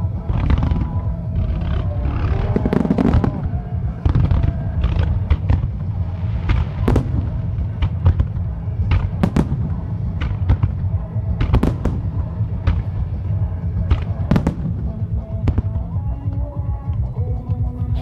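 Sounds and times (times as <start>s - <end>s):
fireworks bursting with sharp bangs: 0.0s - 16.5s
continuous low rumble: 0.0s - 18.0s.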